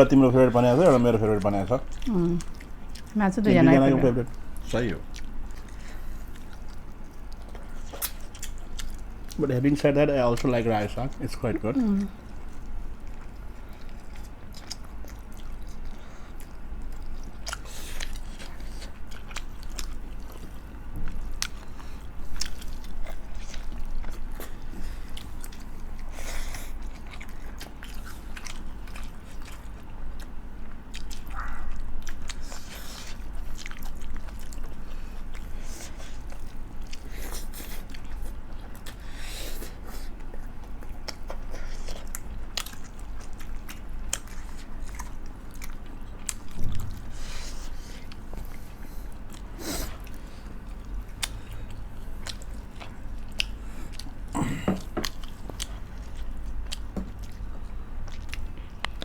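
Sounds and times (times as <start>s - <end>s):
chewing and biting food: 0.2s - 3.2s, 4.3s - 11.4s, 12.2s - 59.0s.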